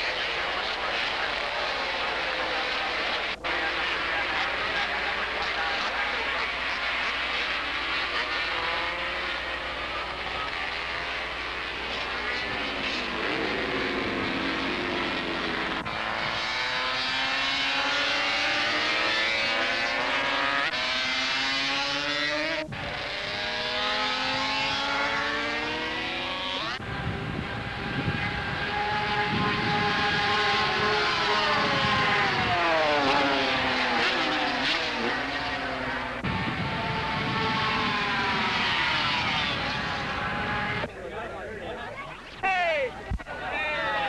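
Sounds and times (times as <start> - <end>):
racing motorcycle engines revving: 0.0 - 44.0.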